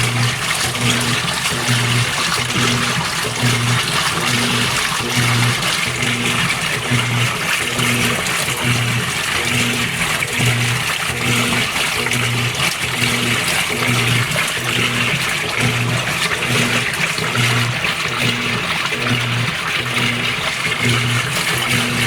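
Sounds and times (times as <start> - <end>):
washer motor humming in pulses: 0.0 - 22.0
water sloshing in tub: 0.0 - 22.0.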